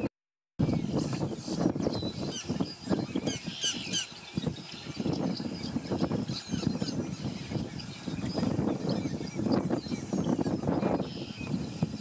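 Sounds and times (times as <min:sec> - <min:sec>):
high bird chirps and squeaks: 0:01.9 - 0:11.6.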